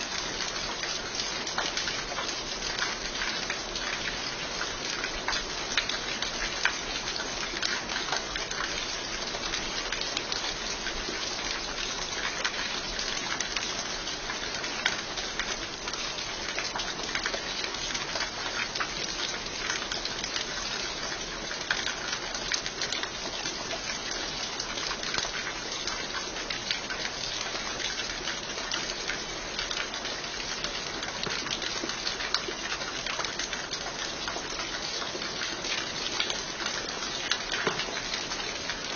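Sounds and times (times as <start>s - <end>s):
heavy rain falling: 0.0s - 38.9s
raindrops pattering on surfaces: 0.0s - 38.9s.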